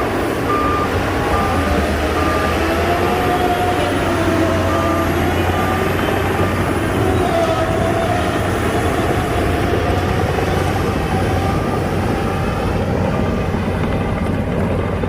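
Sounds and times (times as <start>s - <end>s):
reversing alarm beeping: 0.0s - 13.3s
bulldozer diesel engine: 0.0s - 15.0s.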